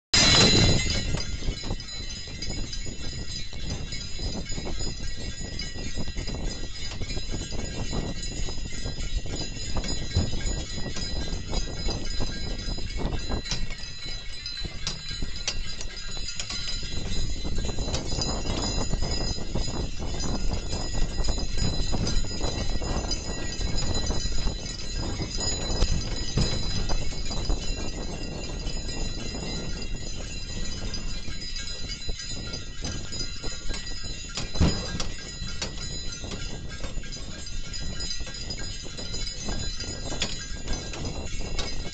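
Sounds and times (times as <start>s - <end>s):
metallic jingling: 0.2s - 41.9s
sleigh and harness knocking: 0.2s - 41.9s.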